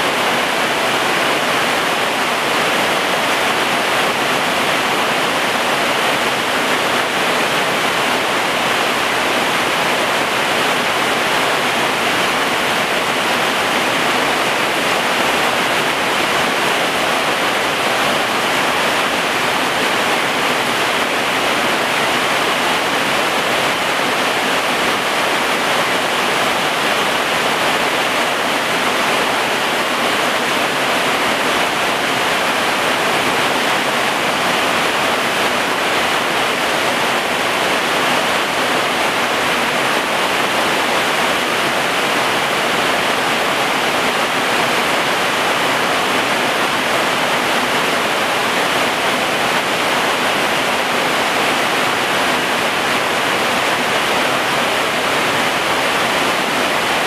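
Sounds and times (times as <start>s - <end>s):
heavy rain on plants: 0.0s - 57.0s.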